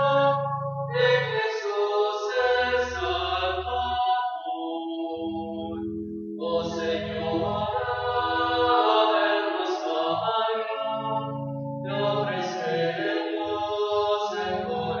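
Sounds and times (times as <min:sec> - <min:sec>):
voices singing a hymn: 0:00.0 - 0:15.0.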